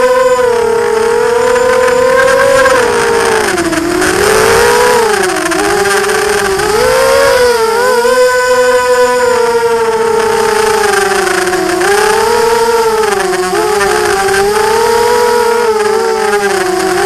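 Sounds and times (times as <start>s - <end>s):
drone motors buzzing whine: 0.0s - 17.0s.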